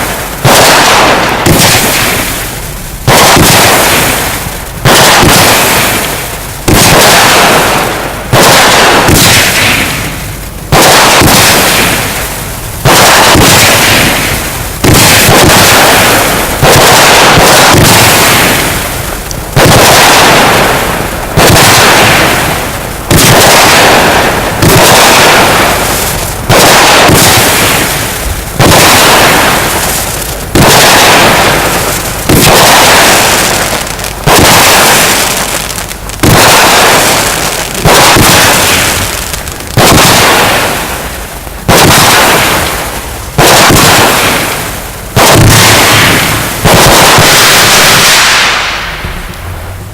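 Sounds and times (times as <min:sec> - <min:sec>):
firework battery bursts: 0:00.0 - 0:49.9.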